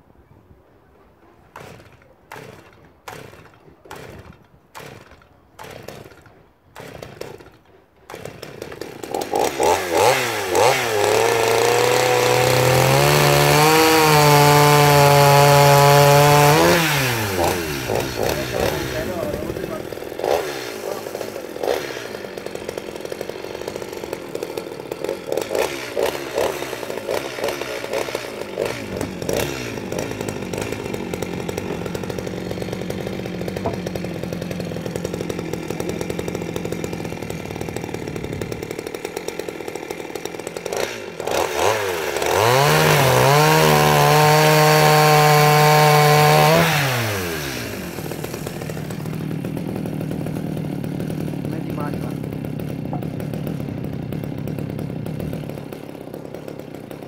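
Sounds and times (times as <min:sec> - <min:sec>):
chainsaw cutting through log: 0:01.5 - 0:57.0
chainsaw idling and revving: 0:01.5 - 0:57.0.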